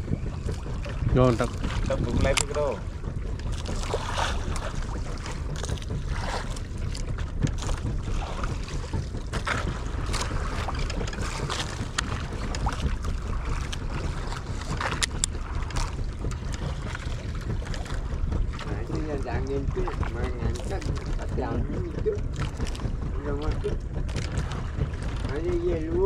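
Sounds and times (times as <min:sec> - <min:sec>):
short knocks and splashes: 0:00.0 - 0:26.0
water lapping against hull: 0:00.0 - 0:26.0
wind buffeting microphone: 0:00.0 - 0:26.0.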